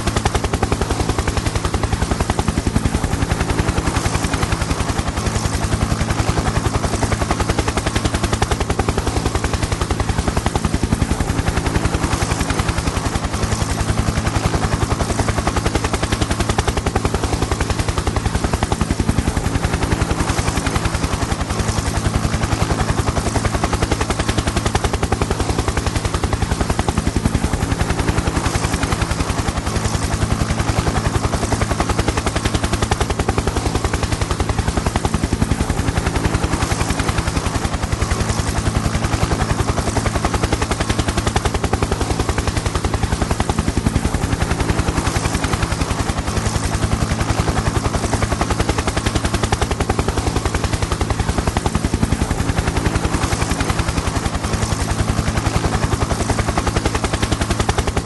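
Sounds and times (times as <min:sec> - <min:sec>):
helicopter engine drone: 0:00.0 - 0:58.0
helicopter rotor chop: 0:00.0 - 0:58.0.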